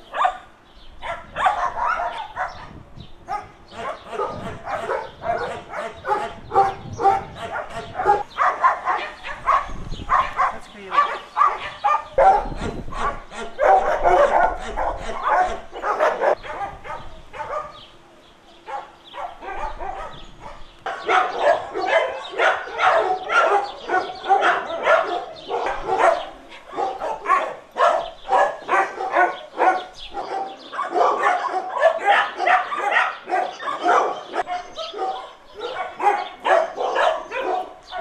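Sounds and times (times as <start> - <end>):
dogs barking: 0.0 - 38.0.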